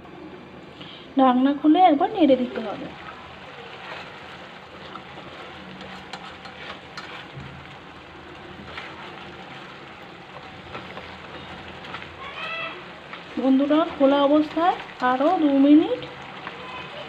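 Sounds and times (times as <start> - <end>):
plastic spatula stirring in a pan: 2.4 - 17.0.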